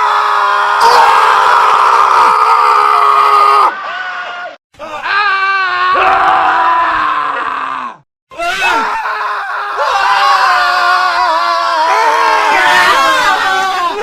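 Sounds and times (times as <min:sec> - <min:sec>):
men screaming: 0:00.0 - 0:14.0.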